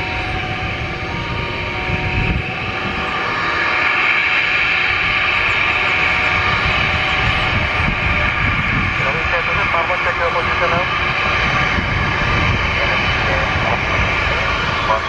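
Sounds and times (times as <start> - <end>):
jet engines running up: 0.0 - 15.0.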